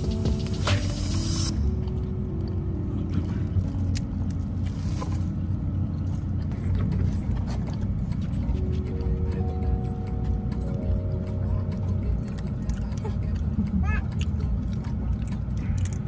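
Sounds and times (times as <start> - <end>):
low rumble inside a car: 0.0 - 16.0
soft background music: 0.0 - 16.0.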